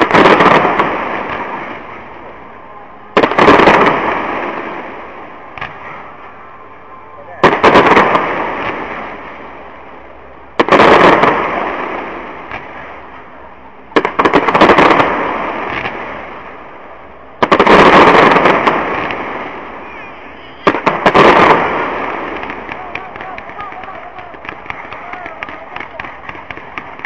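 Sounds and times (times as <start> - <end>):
fireworks bursting: 0.0 - 27.0.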